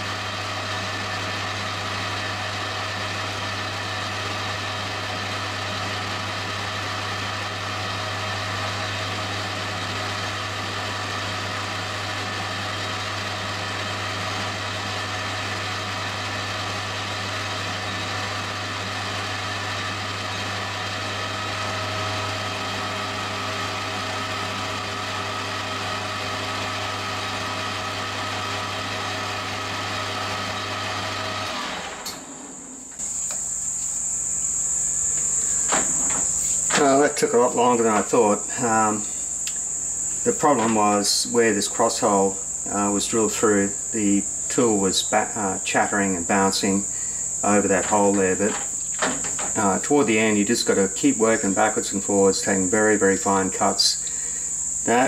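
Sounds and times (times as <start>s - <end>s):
turning tool cutting metal: 0.0s - 32.4s, 33.0s - 53.8s
metal lathe motor hum: 0.0s - 55.0s.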